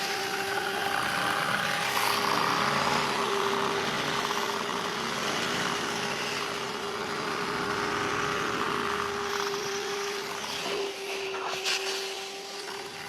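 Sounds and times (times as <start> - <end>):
small engine running steadily: 0.0 - 13.0.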